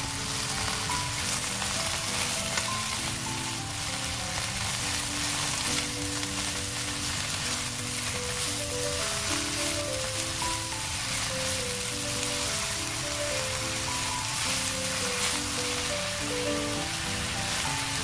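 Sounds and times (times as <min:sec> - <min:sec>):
soft background music: 0:00.0 - 0:18.0
spatula stirring in pan: 0:00.0 - 0:18.0
vegetables sizzling in frying pan: 0:00.0 - 0:18.0.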